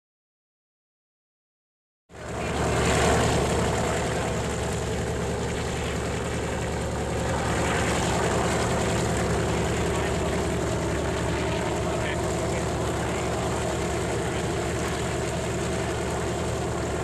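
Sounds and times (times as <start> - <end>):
propeller engine drone: 2.1 - 17.0.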